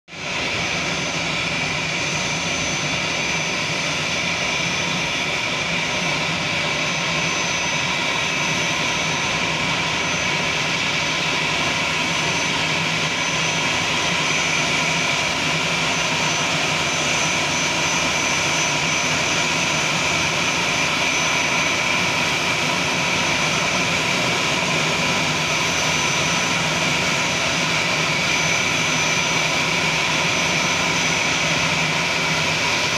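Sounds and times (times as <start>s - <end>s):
jet engines running with whistle: 0.1s - 32.9s.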